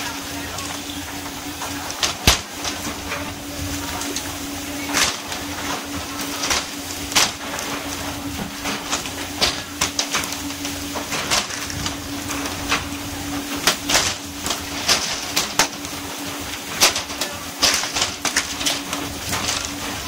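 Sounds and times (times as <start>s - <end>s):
boat hum: 0.0s - 20.0s
water spraying along hull: 0.0s - 20.0s.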